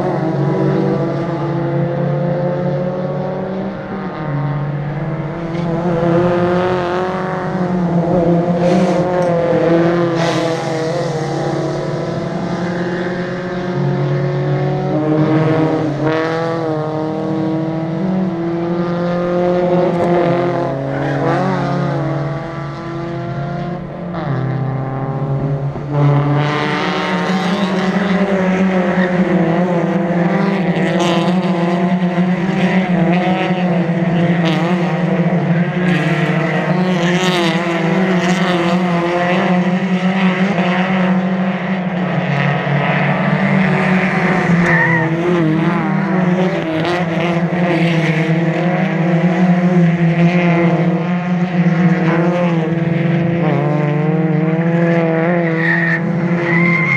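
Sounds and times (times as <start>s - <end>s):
race car engines at high revs: 0.0s - 56.9s.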